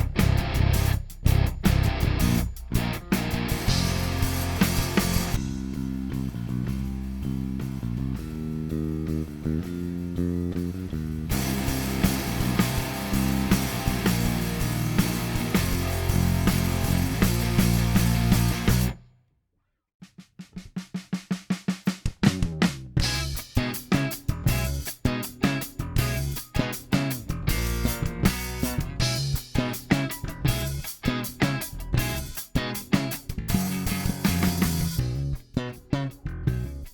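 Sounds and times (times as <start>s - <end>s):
electric bass groove: 0.0s - 19.0s, 22.1s - 36.9s
drums: 0.0s - 19.1s, 20.0s - 36.9s.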